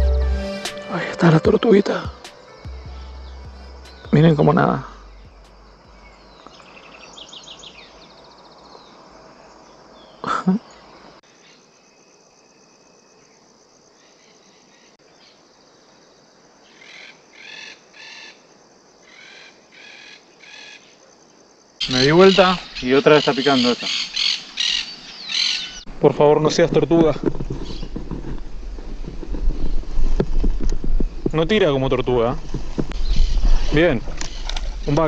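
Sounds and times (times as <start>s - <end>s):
wild birds chirping: 0.0s - 28.1s, 30.5s - 35.0s.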